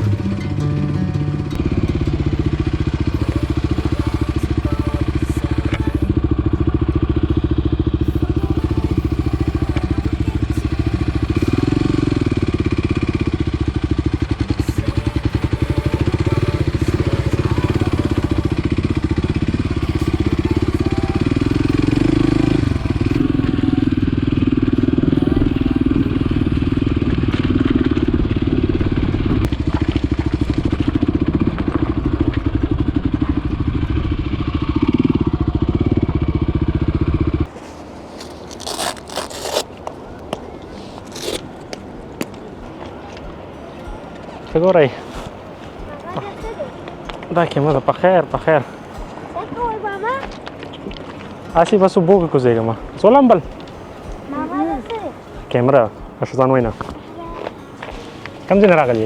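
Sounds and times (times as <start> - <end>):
motorcycle engine running: 0.0 - 39.7, 44.5 - 59.0.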